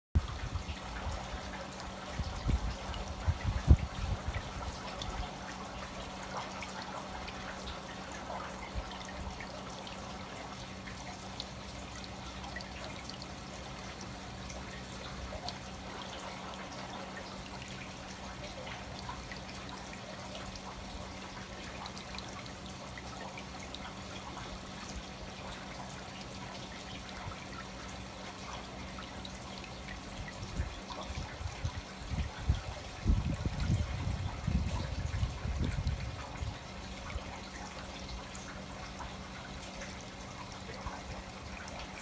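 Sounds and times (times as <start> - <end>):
water trickling and dripping: 0.2 - 42.0.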